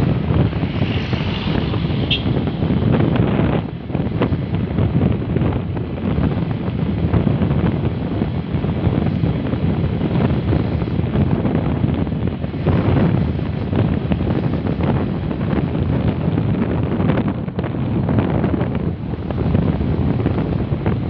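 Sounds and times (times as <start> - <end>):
vehicle rumble on road: 0.0 - 21.0
wind buffeting microphone: 0.0 - 21.0.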